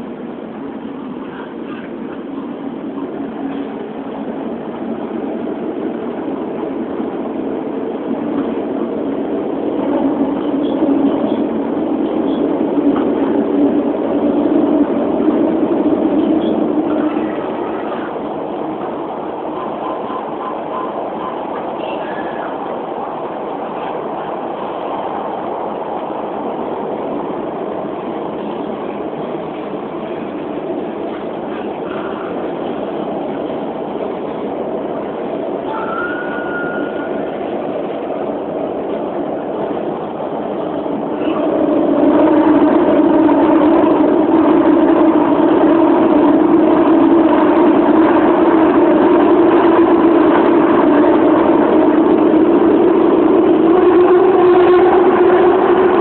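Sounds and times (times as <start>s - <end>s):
subway train running rumble: 0.0s - 56.0s.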